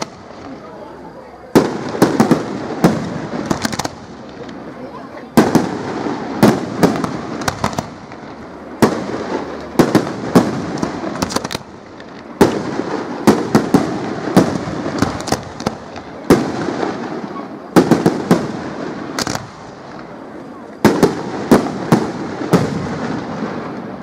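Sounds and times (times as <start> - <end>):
firework shells bursting: 0.0 - 0.7, 1.5 - 4.8, 5.4 - 24.0.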